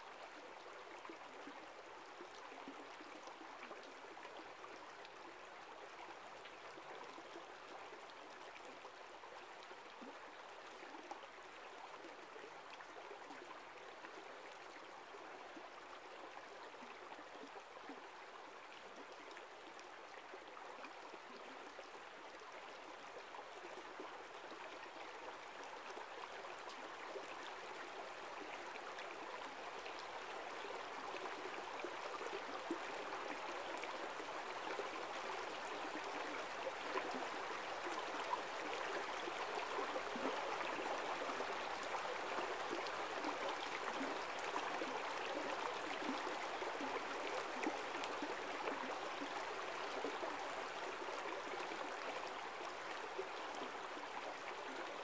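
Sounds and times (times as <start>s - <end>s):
stream flowing over rocks: 0.1s - 55.0s.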